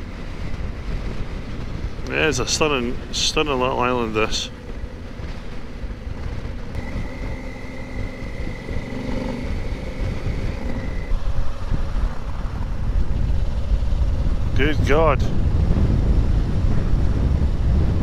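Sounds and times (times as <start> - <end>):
motorcycle engine and road rumble: 0.0 - 18.0.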